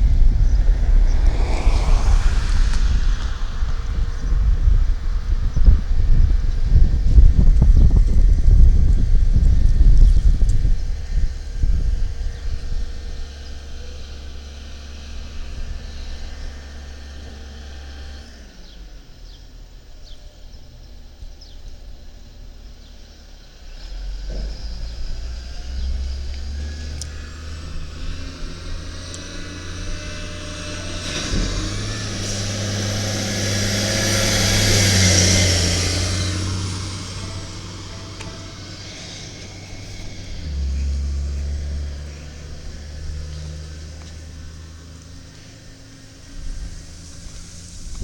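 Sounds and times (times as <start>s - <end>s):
garbage truck diesel engine: 0.0s - 48.0s.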